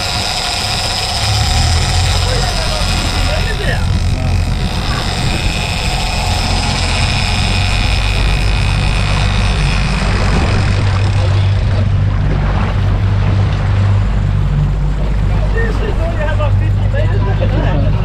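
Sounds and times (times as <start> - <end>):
outboard motor running: 0.0 - 18.0
water and hull noise: 0.0 - 18.0.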